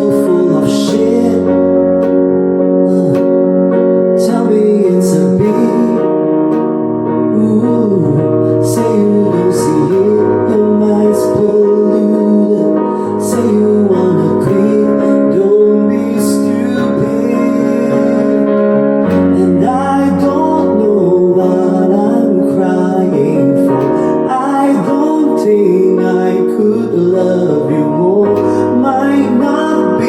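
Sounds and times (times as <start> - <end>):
sliding melody line: 0.0 - 30.0
sustained piano chords: 0.0 - 30.0.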